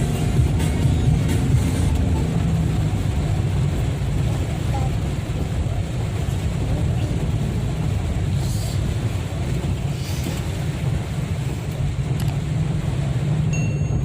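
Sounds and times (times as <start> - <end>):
heavy rain: 0.0 - 14.0
rumble of passing vehicles: 0.0 - 14.0
tyres hissing on wet road: 0.0 - 14.0.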